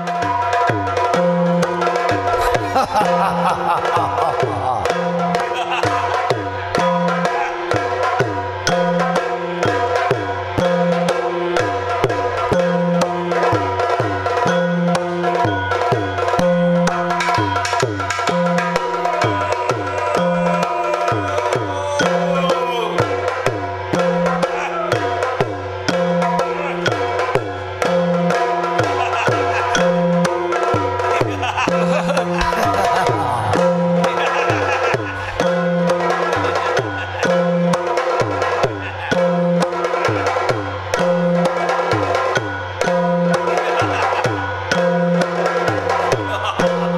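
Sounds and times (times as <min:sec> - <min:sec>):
fast drumming: 0:00.0 - 0:14.4, 0:15.8 - 0:46.9.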